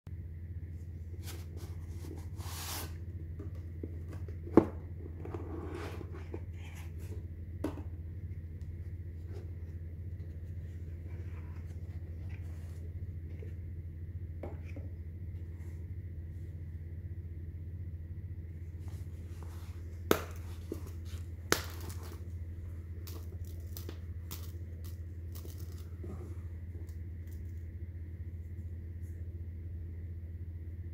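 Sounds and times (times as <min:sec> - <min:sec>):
steady low hum: 0:00.1 - 0:30.9.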